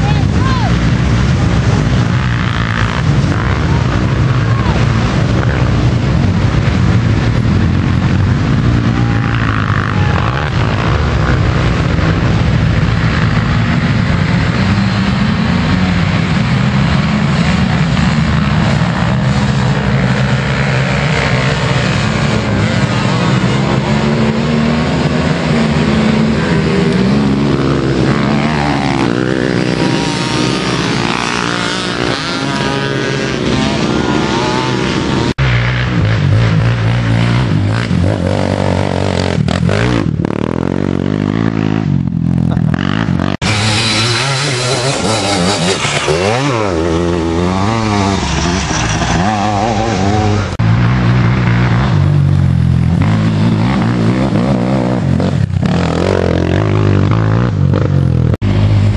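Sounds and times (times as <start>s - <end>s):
quad engines revving: 0.0s - 58.9s
quad passing by: 0.0s - 58.9s.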